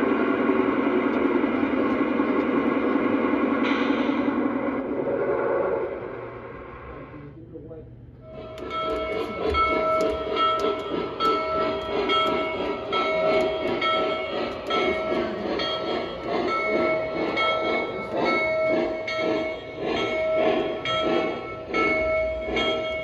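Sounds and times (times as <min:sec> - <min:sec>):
model train running pulses: 0:00.0 - 0:06.8, 0:08.2 - 0:23.0.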